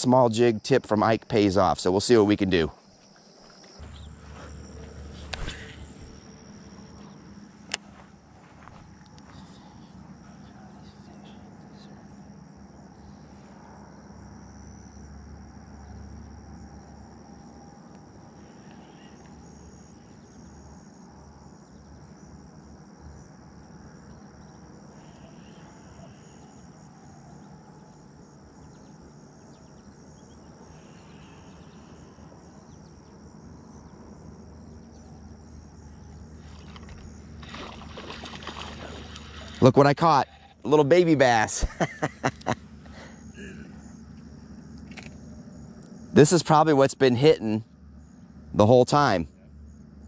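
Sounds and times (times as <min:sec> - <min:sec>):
insects chirring: 0:00.0 - 0:50.0
low outdoor rumble: 0:00.0 - 0:50.0.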